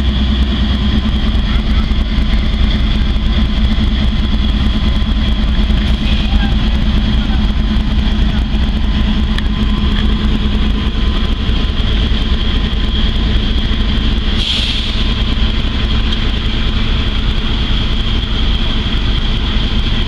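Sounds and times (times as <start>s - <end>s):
diesel locomotives idling: 0.0s - 20.0s
high whine: 0.0s - 20.0s.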